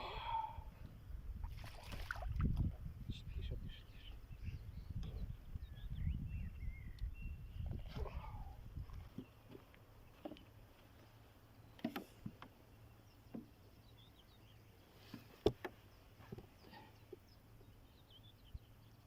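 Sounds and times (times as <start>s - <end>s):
faint birds chirping: 3.0s - 19.0s.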